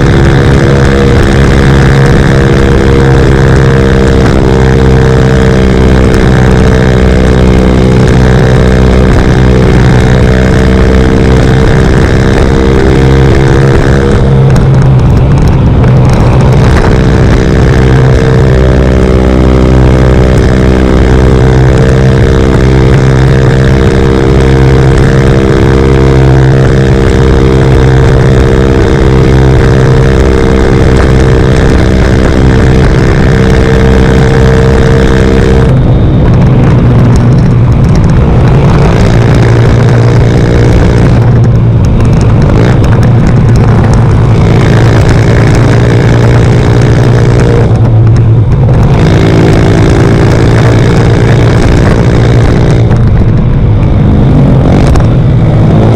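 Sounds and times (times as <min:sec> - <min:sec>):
single-cylinder motorcycle engine: 0:00.0 - 0:55.9.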